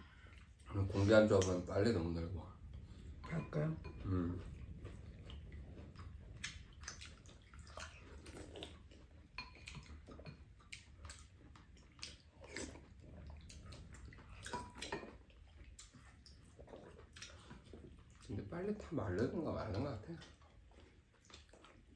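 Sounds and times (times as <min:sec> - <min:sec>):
wet chewing: 0:00.0 - 0:21.9.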